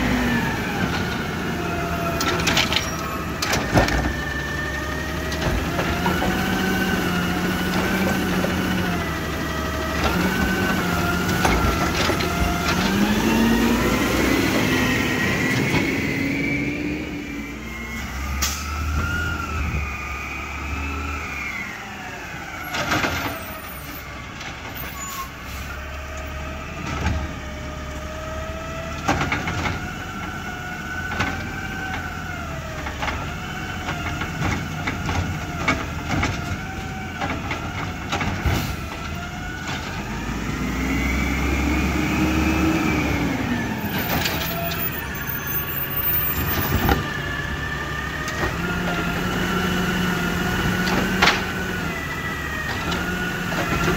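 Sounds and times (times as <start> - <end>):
garbage truck engine and whine: 0.0 - 53.9.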